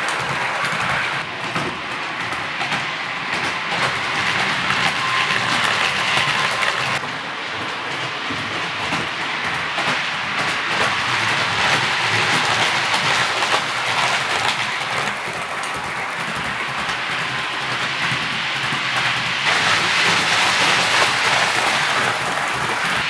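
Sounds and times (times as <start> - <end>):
small wheels rattling on rails: 0.0 - 23.0
wheels clicking over rail joints: 0.0 - 23.0.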